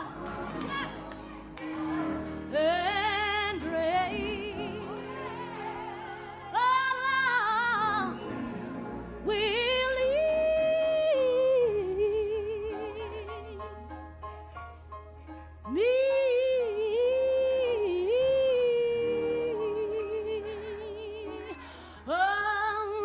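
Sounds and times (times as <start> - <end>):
person singing with vibrato: 0.0 - 14.0, 15.7 - 23.0.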